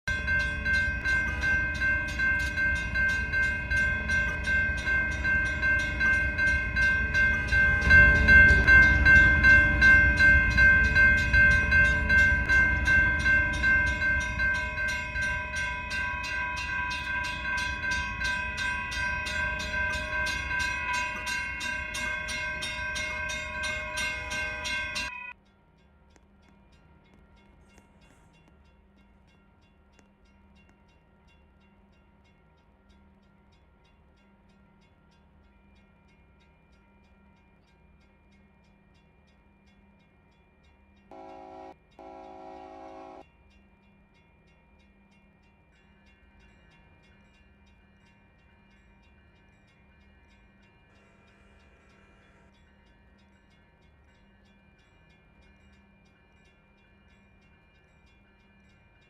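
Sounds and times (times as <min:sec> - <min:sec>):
railroad crossing bell ringing: 0:00.0 - 0:59.0.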